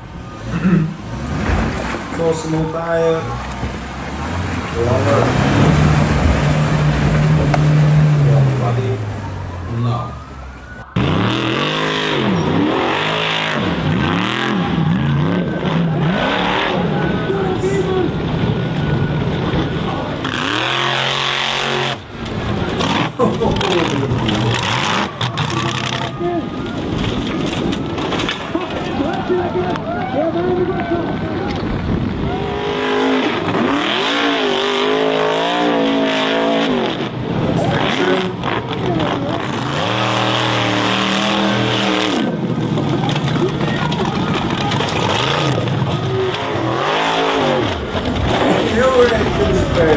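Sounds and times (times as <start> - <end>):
buggy engine at high revs: 0.0 - 10.1, 10.9 - 27.8, 32.1 - 49.9
buggy engine revving: 0.0 - 49.9.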